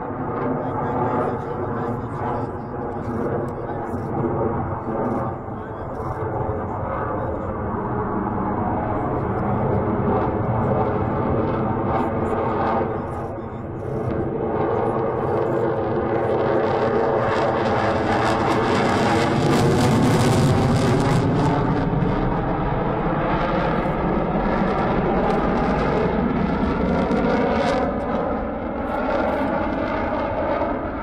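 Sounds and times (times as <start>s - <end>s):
jet engines rushing overhead: 0.0s - 31.0s.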